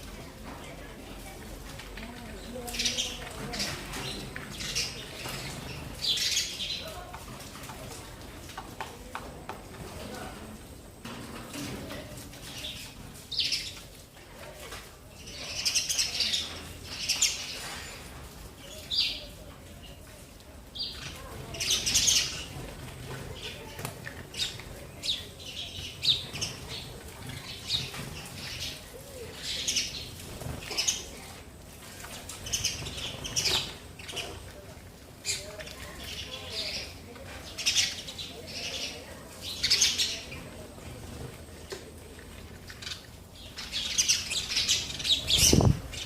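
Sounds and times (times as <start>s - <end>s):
sparrows chirping: 0.0s - 8.0s, 11.6s - 14.0s, 14.8s - 40.8s, 41.6s - 46.0s.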